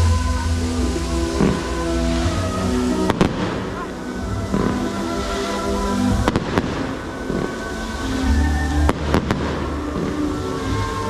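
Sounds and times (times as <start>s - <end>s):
fireworks bangs: 0.0s - 11.0s
music: 0.0s - 11.0s.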